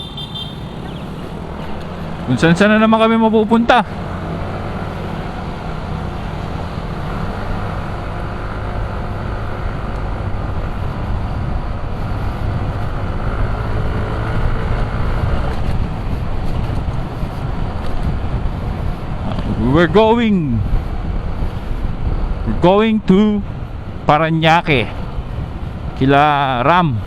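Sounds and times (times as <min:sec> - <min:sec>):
wind on microphone: 0:03.9 - 0:27.0.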